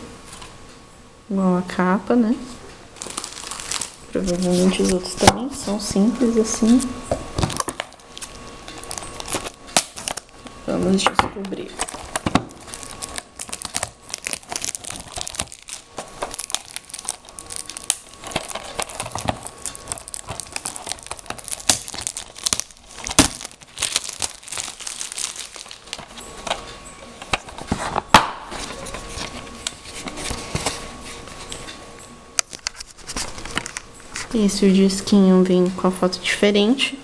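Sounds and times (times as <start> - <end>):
plastic packaging crinkling: 3.0 - 31.7, 32.4 - 34.4.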